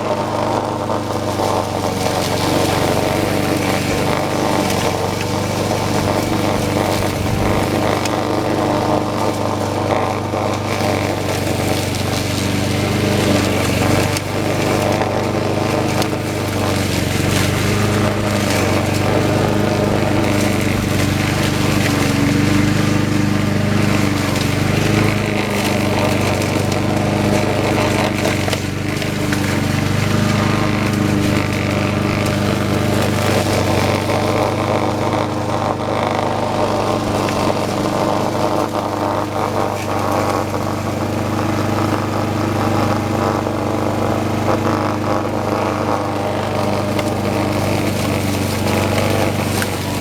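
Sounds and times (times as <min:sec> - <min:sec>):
lawn mower engine cutting grass: 0:00.0 - 0:50.0.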